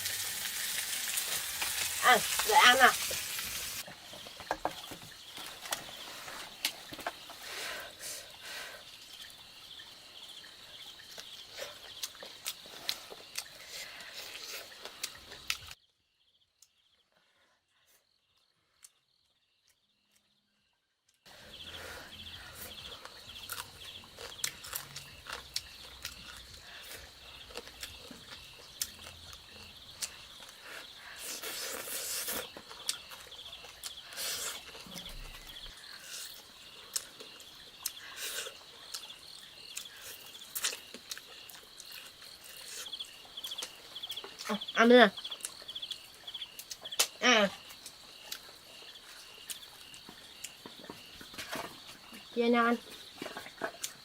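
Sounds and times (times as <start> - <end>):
insects chirring: 0.0 - 17.2, 17.8 - 54.0.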